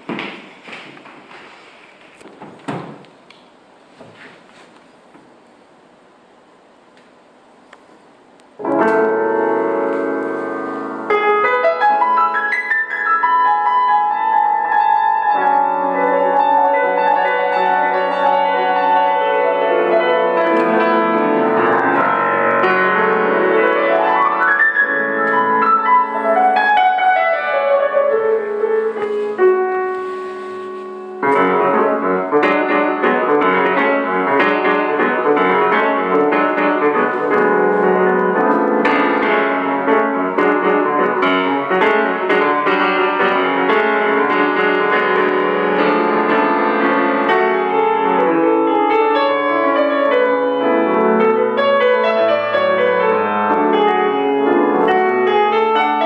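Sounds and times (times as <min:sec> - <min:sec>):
solo grand piano jazz: 0:07.1 - 0:56.0.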